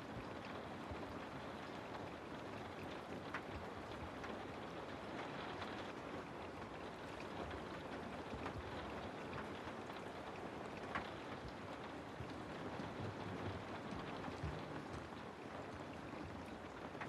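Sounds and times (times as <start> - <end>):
rain falling through trees: 0.0 - 17.0
raindrops pattering close: 0.0 - 17.0.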